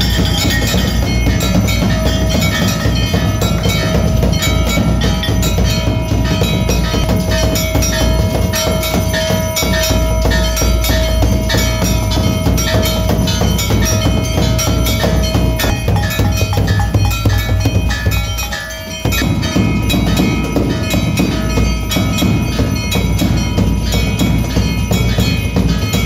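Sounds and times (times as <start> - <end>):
metal bells ringing: 0.0 - 26.0
rapid drum strokes: 0.0 - 26.0.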